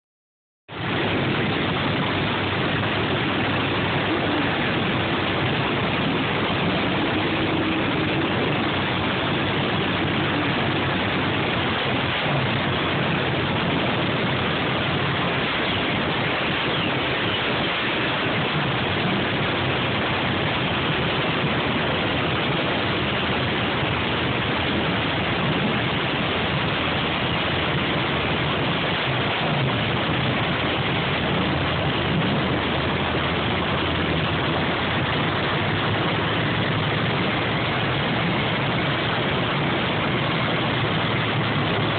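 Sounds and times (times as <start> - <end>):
rough dragster engine running: 0.7 - 41.9.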